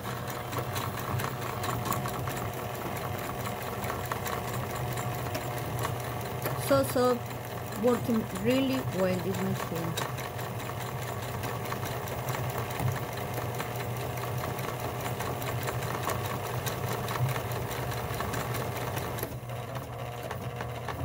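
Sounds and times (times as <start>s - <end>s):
sewing machine motor hum: 0.0s - 21.0s
sewing machine needle clicking: 0.0s - 21.0s.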